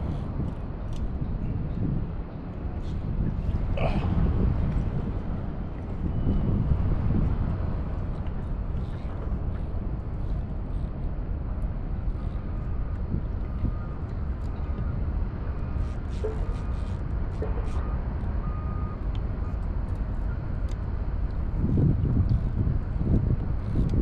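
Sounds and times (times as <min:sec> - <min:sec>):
wind buffeting microphone: 0:00.0 - 0:18.6, 0:19.3 - 0:24.0.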